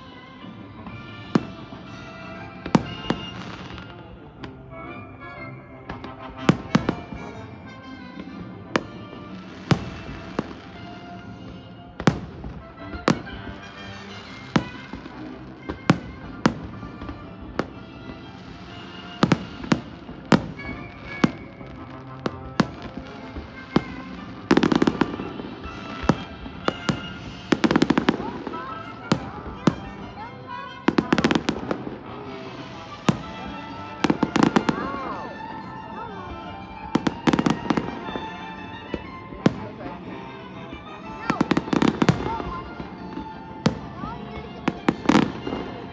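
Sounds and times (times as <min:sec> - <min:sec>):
fireworks exploding: 0:00.0 - 0:05.2, 0:05.9 - 0:45.9
music playing: 0:00.0 - 0:45.9.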